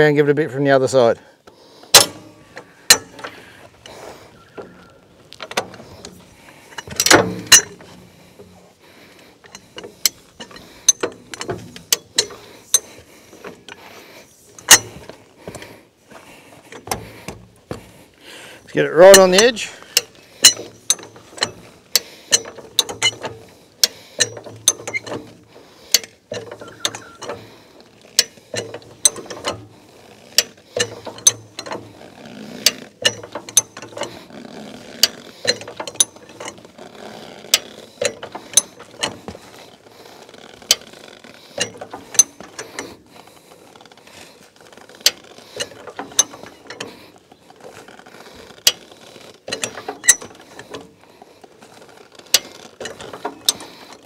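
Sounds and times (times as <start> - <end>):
jack ratcheting metallic clacks: 1.9 - 8.6, 9.4 - 13.9, 14.5 - 15.6, 19.0 - 54.0.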